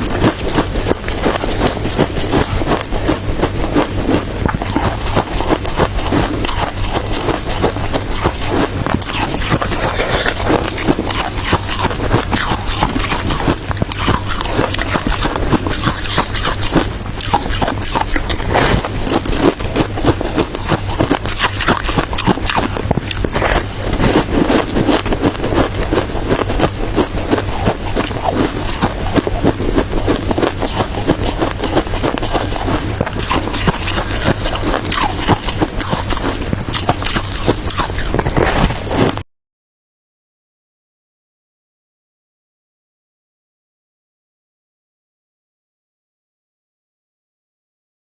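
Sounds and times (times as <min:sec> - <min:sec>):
shaved ice crunching being chewed: 0:00.0 - 0:39.2.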